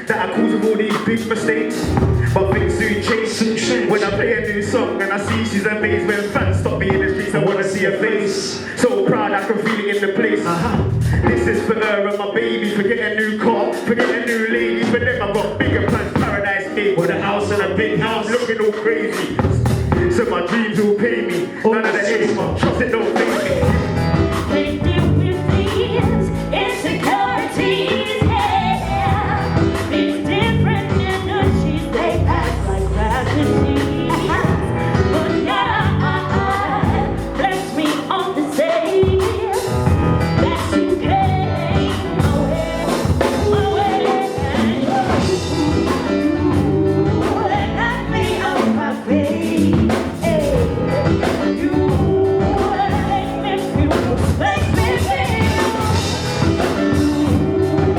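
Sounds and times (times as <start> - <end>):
live band music: 0.0 - 57.9
person singing: 0.0 - 57.9.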